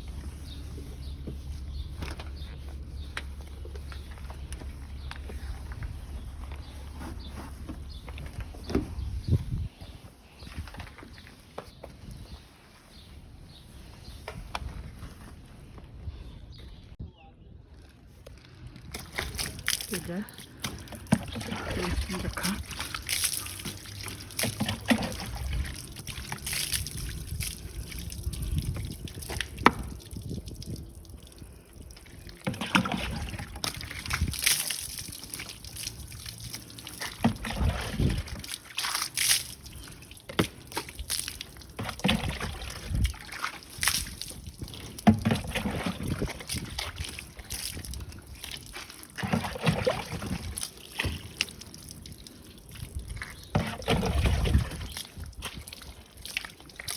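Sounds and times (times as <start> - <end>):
water sloshing and trickling: 0.0 - 17.0, 17.7 - 56.9.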